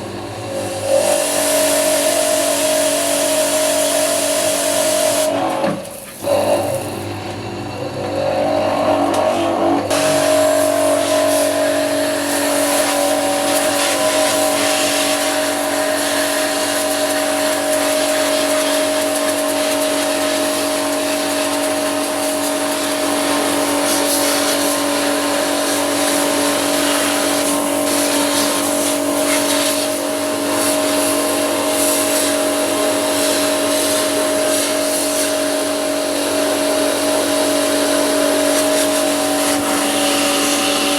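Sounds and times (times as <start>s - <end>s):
pressure washer pump running: 0.0s - 40.9s.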